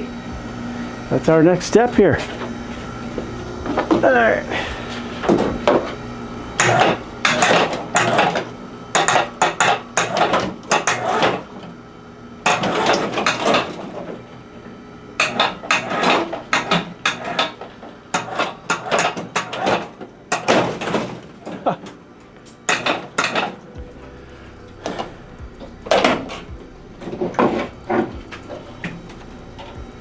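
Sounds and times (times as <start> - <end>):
metal clanking and rattling: 1.8 - 11.6, 12.5 - 14.1, 15.2 - 23.8, 24.6 - 29.9.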